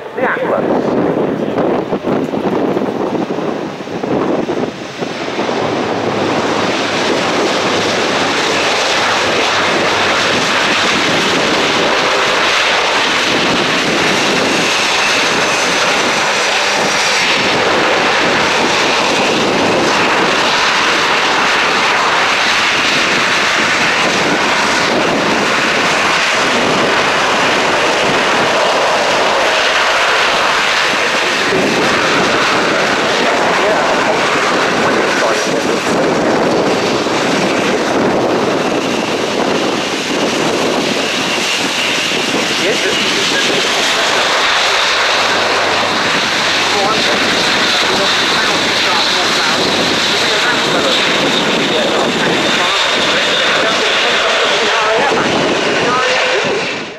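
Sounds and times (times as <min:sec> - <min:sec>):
turboprop engines running loud: 0:00.0 - 0:56.9.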